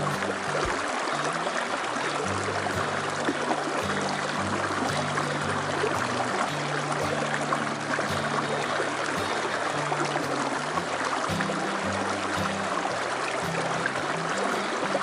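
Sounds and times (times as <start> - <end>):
soft melody of low notes: 0.0 - 15.0
stream water flowing: 0.0 - 15.0.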